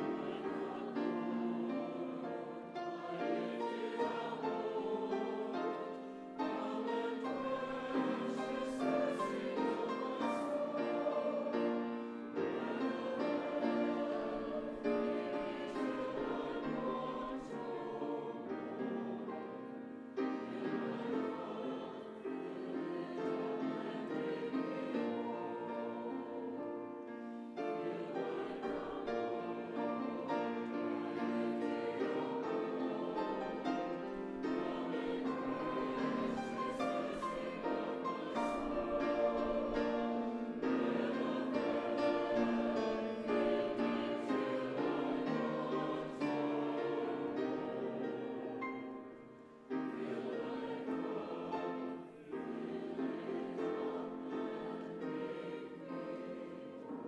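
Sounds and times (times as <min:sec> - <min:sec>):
church choir singing: 0:00.0 - 0:57.0
piano accompaniment: 0:00.0 - 0:57.0.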